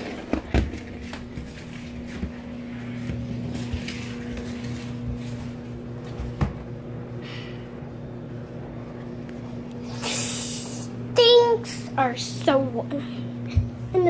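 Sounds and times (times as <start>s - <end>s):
clothes dryer humming: 0.0s - 14.0s.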